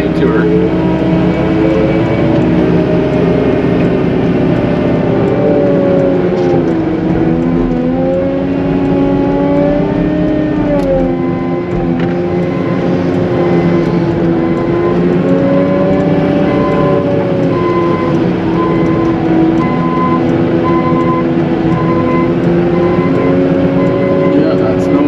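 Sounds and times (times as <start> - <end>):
broken beeping tone: 0.0 - 4.2, 4.9 - 25.0
wheel loader diesel engine: 0.0 - 25.0.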